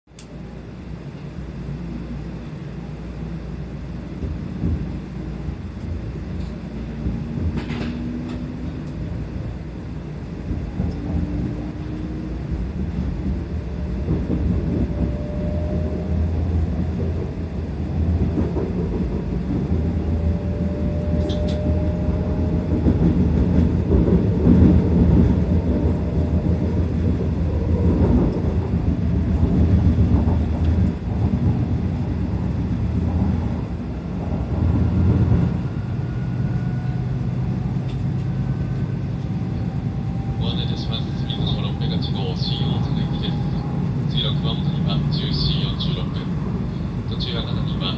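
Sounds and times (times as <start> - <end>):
train running rumble: 0.1 - 47.9.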